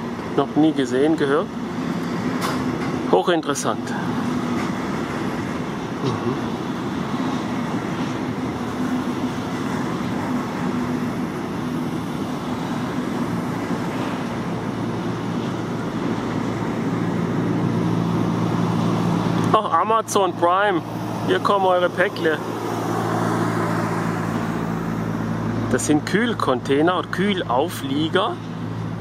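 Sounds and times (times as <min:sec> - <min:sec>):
constant low hum: 0:00.0 - 0:29.0
freight train wheels rumbling: 0:00.0 - 0:29.0.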